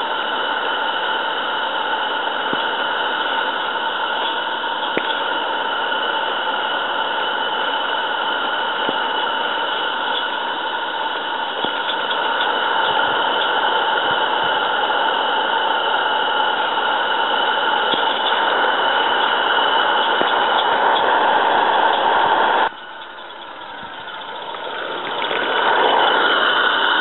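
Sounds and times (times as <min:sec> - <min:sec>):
steam hissing: 0:00.0 - 0:27.0.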